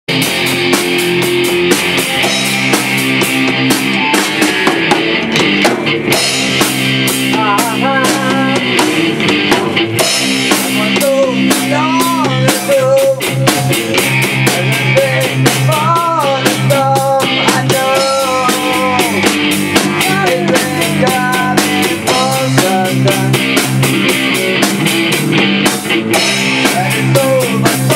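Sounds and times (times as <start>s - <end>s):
drum kit: 0.1s - 27.9s
electric guitars playing: 0.1s - 27.9s
melody with bent notes: 0.1s - 27.9s.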